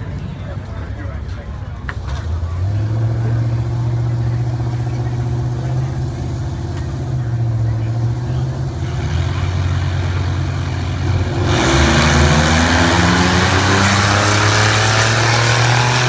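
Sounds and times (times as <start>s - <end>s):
drag racing engines revving: 0.0s - 16.0s.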